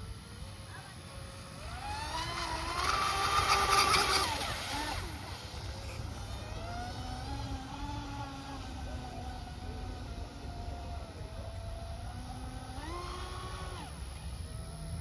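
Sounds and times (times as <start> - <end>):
rc boat motor whine: 0.0 - 15.0.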